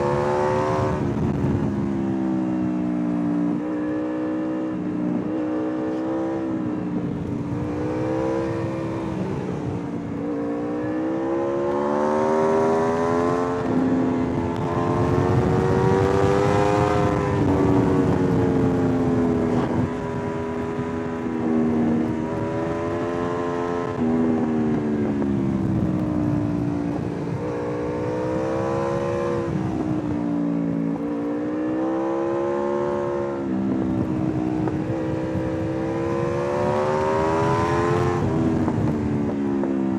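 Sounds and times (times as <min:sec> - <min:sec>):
wind rush: 0:00.0 - 0:02.5, 0:06.3 - 0:31.5, 0:32.2 - 0:39.9
motorcycle engine revving: 0:00.0 - 0:39.9.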